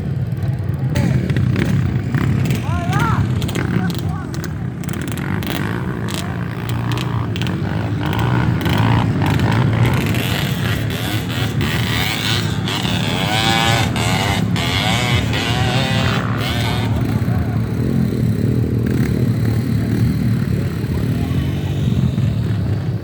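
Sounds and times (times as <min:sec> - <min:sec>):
dirt bike engines running: 0:00.0 - 0:23.0.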